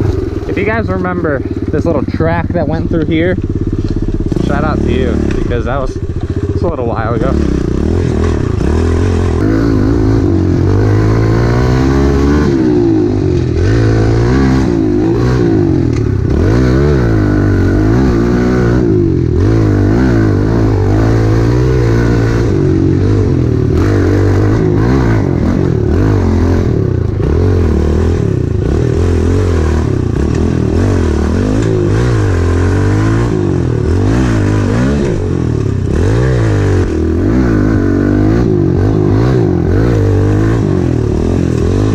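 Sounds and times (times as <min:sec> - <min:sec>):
small motorbike engine revving: 0:00.0 - 0:41.9.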